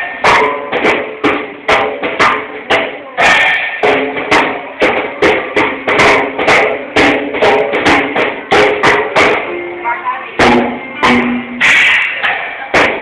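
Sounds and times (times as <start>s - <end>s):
child banging on drum kit: 0.0s - 13.0s.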